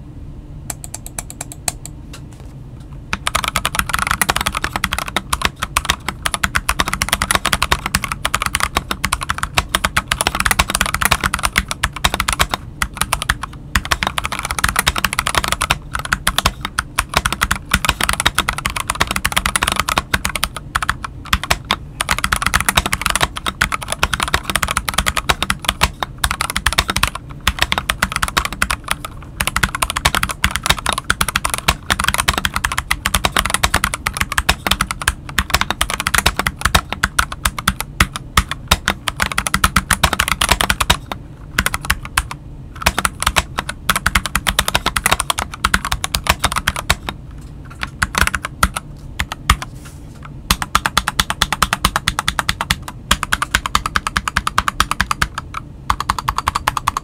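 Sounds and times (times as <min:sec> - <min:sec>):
mechanical keyboard typing: 0:00.7 - 0:01.9, 0:03.2 - 0:49.7, 0:50.5 - 0:57.0.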